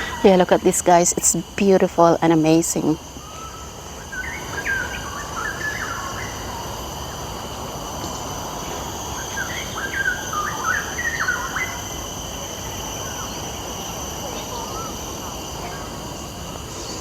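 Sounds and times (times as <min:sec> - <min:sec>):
high drone of insects: 0:00.0 - 0:17.0.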